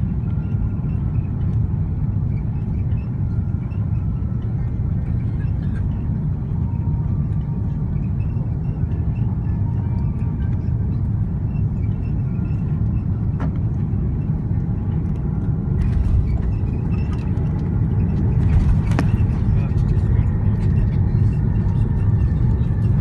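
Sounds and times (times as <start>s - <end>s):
aircraft engine and airflow rumble: 0.0s - 23.0s.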